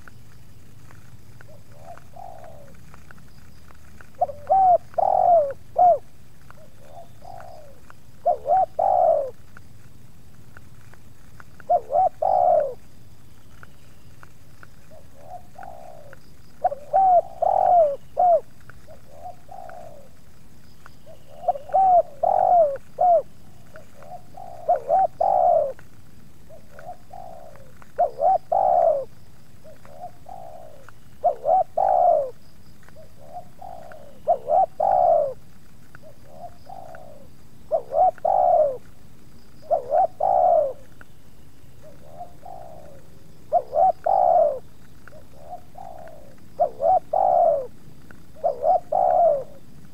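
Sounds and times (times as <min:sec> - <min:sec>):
doves cooing: 0:00.0 - 0:09.6, 0:10.6 - 0:49.9.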